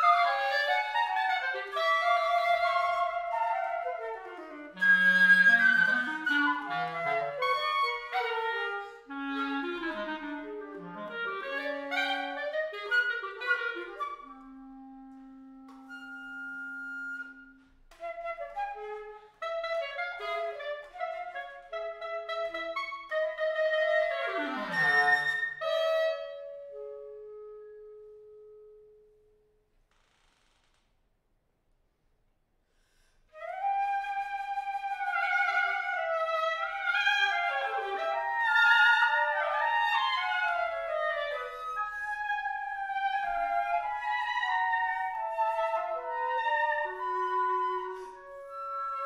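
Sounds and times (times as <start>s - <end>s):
alto flute: 0.0s - 29.0s, 33.3s - 49.0s
bass clarinet: 0.0s - 29.0s, 33.3s - 49.0s.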